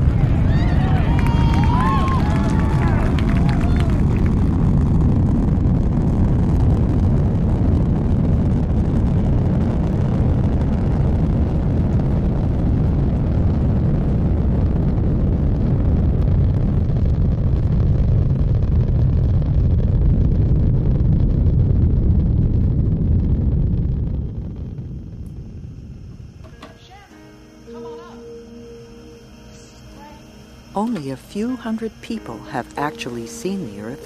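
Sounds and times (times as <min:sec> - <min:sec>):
rocket engines rumbling: 0:00.0 - 0:34.0.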